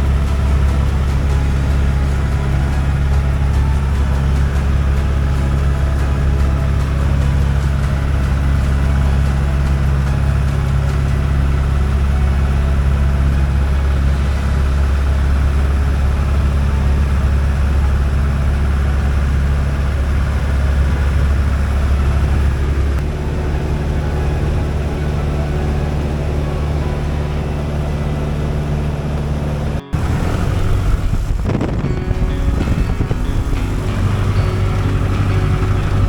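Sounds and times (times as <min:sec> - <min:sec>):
small aircraft engine droning: 0:00.0 - 0:36.0.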